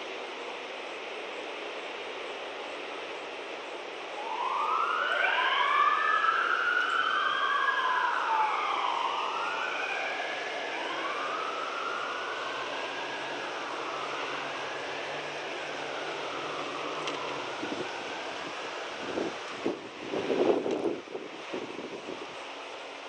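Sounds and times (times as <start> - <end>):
emergency sirens wailing: 0.0 - 23.0
steady background hum: 0.0 - 23.0.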